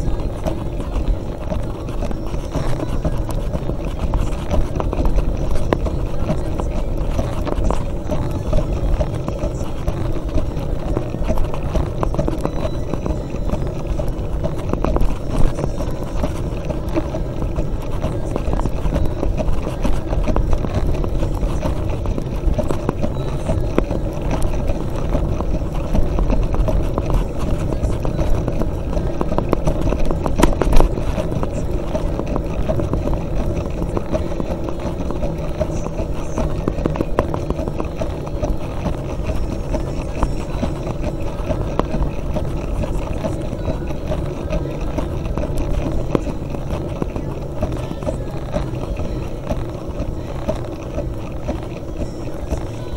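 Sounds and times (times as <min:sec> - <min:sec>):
mountain bike rattling over trail: 0:00.0 - 0:52.9
tyre and wind rumble: 0:00.0 - 0:52.9.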